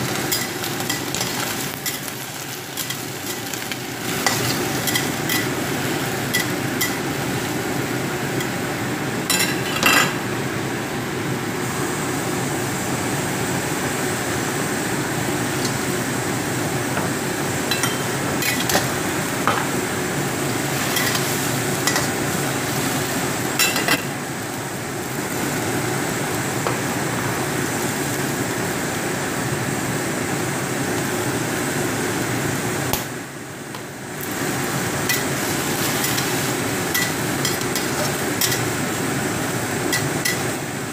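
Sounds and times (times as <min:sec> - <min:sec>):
vegetables sizzling in a wok: 0:00.0 - 0:40.9.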